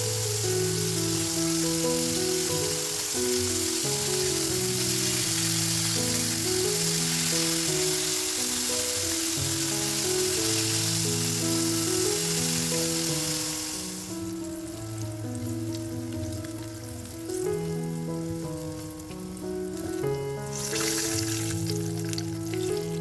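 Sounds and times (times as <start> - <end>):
background music melody: 0.0 - 23.0
squid deep-frying in hot oil: 0.0 - 23.0.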